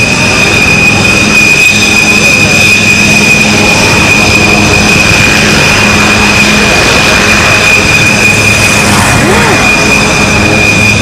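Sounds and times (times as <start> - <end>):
jet engine rushing noise: 0.0 - 11.0
jet engines whining: 0.0 - 11.0.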